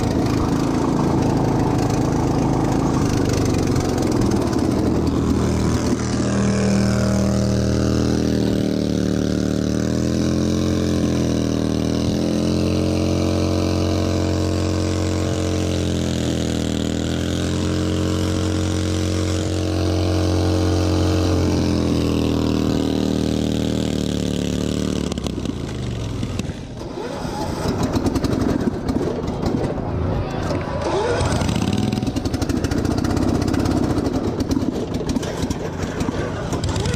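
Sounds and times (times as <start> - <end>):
lawn tractor engine running: 0.0 - 36.9.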